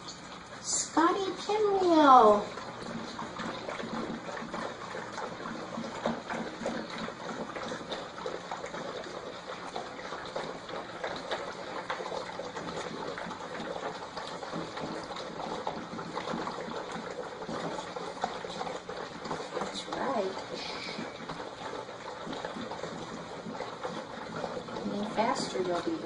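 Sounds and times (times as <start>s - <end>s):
puppies lapping and slurping: 0.0s - 26.0s.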